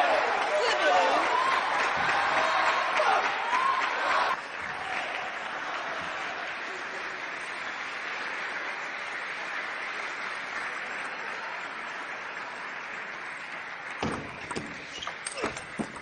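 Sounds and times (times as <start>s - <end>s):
spectators applauding: 0.0s - 16.0s.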